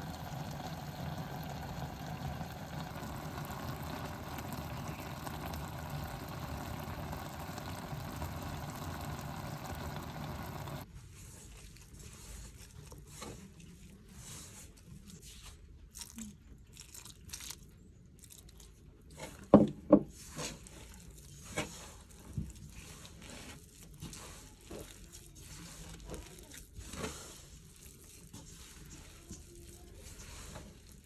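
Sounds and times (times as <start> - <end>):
hand mixing dough in metal pot: 0.0 - 31.0.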